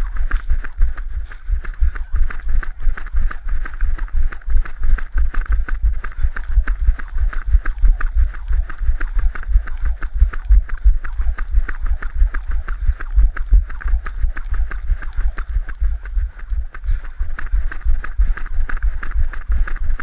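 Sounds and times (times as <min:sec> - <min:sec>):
jump rope slapping asphalt: 0:00.1 - 0:20.0.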